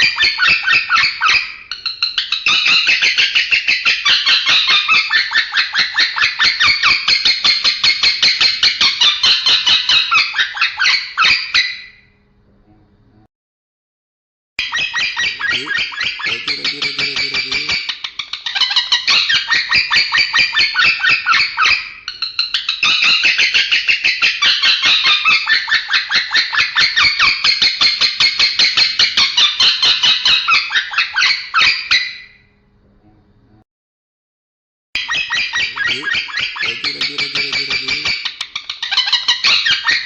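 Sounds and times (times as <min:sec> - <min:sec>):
bird chattering song: 0:00.0 - 0:11.7, 0:14.6 - 0:32.2, 0:35.0 - 0:40.0.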